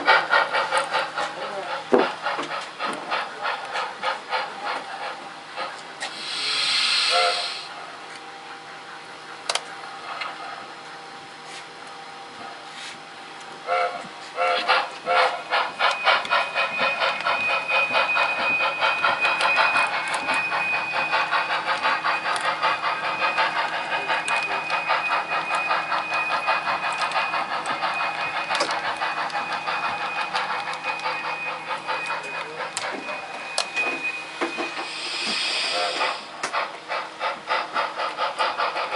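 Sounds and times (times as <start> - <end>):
model steam locomotive chuffing: 0.0 - 38.9
thin steady whine: 4.7 - 37.4.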